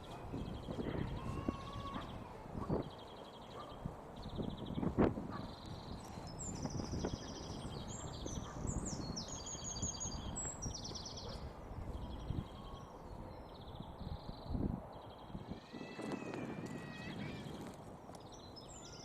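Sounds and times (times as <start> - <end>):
songbirds trilling: 0.0 - 19.0.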